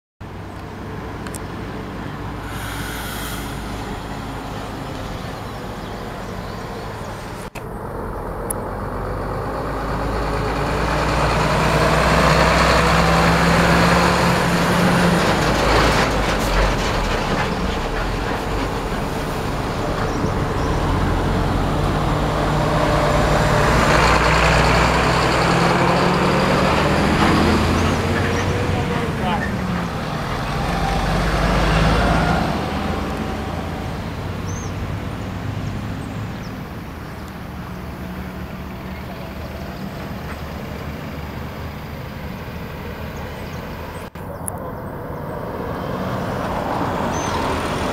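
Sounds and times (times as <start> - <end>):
diesel trucks passing: 0.2 - 47.9.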